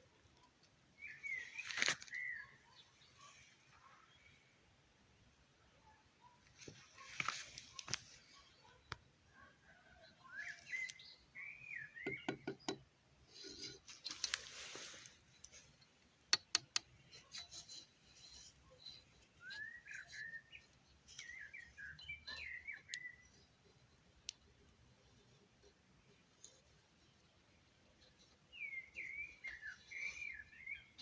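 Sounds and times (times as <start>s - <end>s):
bird chirping: 0.2s - 4.6s, 5.8s - 12.8s, 13.4s - 31.0s.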